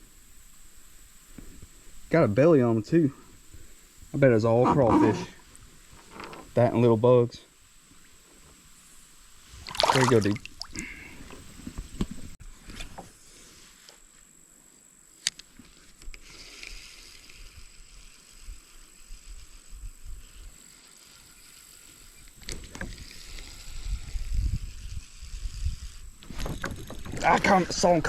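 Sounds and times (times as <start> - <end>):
creek water hiss: 0.0 - 26.6.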